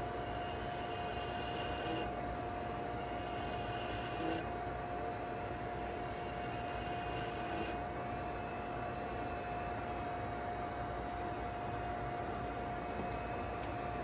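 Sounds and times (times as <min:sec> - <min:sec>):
wood lathe motor whine: 0:00.0 - 0:04.5, 0:05.6 - 0:14.0.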